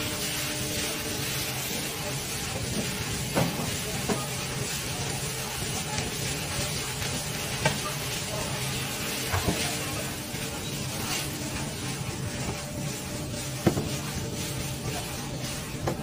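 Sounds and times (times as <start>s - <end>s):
low machine hum: 0.0s - 16.0s
noodles sizzling: 0.0s - 16.0s.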